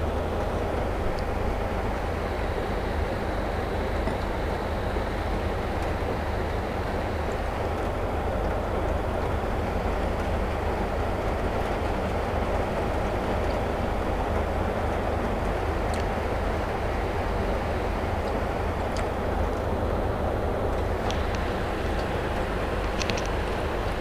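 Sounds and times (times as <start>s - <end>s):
rumbling background noise: 0.0s - 24.0s.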